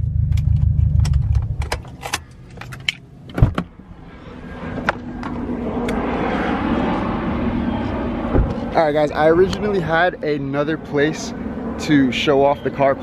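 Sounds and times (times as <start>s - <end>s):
car engine rumble: 0.0s - 12.9s
traffic noise: 0.0s - 13.0s.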